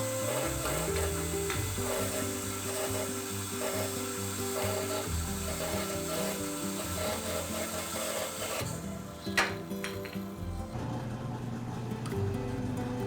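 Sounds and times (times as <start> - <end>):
wood lathe turning scraping hiss: 0.0 - 10.5.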